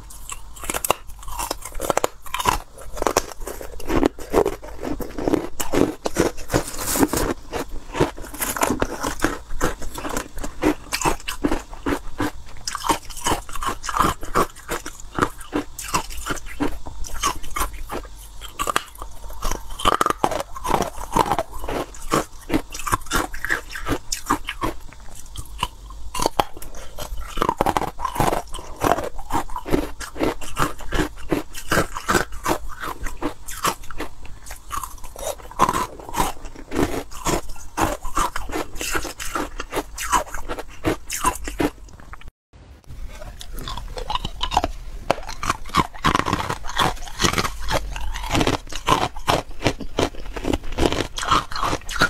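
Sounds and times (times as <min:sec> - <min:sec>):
chewing crunchy ice: 0:00.0 - 0:42.3, 0:43.1 - 0:52.0.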